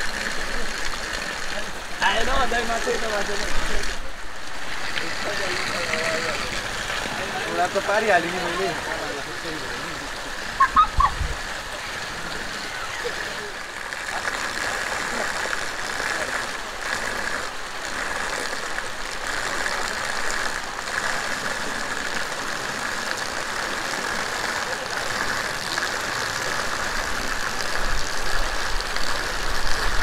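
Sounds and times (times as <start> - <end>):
water pouring and splashing: 0.0 - 30.0.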